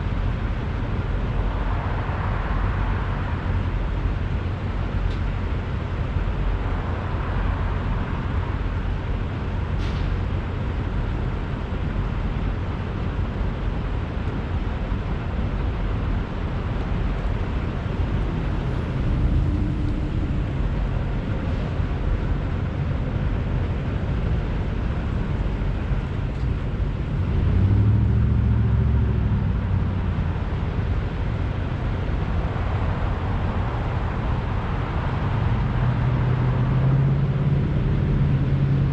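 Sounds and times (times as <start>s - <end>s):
diesel truck engines rumbling: 0.0s - 38.9s.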